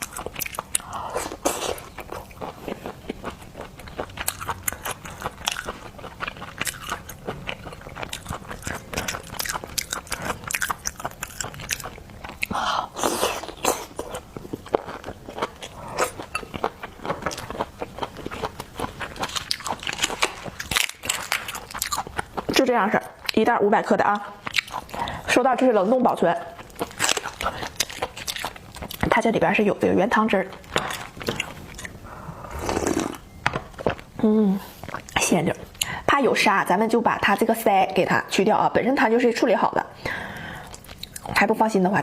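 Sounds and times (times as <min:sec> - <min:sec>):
person chewing with crunches: 0:00.0 - 0:23.4, 0:24.1 - 0:25.4, 0:26.1 - 0:29.2, 0:30.4 - 0:35.9, 0:40.4 - 0:41.4.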